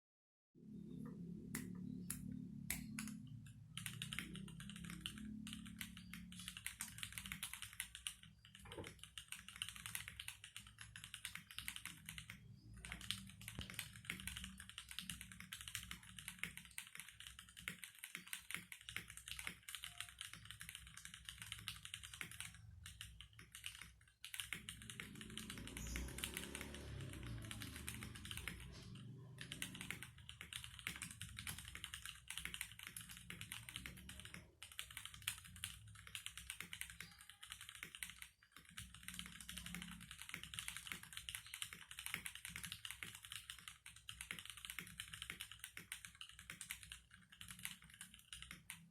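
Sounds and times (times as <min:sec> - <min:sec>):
mechanical keyboard typing: 0:01.0 - 0:48.9.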